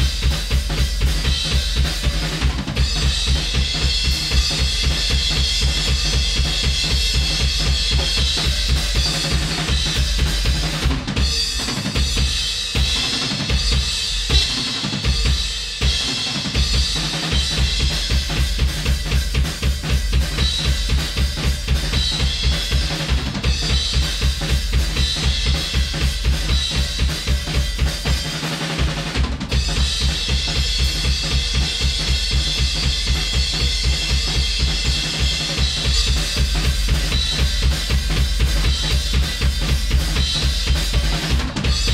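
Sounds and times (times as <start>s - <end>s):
drum kit beat: 0.0s - 41.9s.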